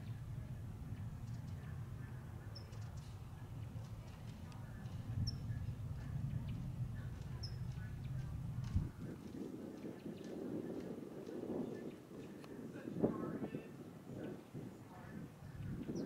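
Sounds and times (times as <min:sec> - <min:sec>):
distant jet rumble: 0:00.0 - 0:16.0.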